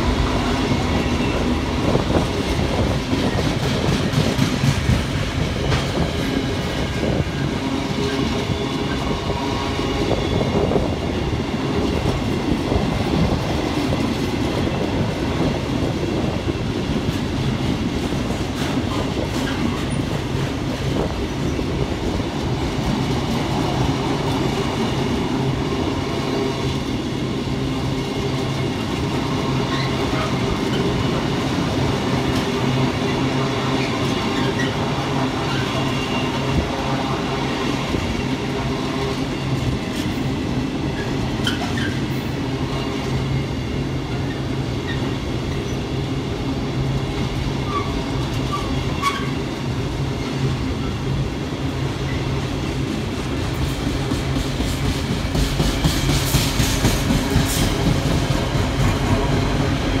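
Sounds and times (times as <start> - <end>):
clickety-clack over rail joints: 0.0 - 60.0
freight train wheels rumbling on rails: 0.0 - 60.0.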